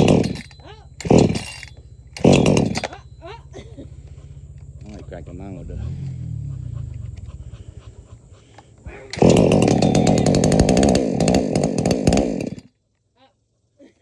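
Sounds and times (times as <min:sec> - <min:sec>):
chainsaw running: 0:00.0 - 0:07.6, 0:08.9 - 0:12.7.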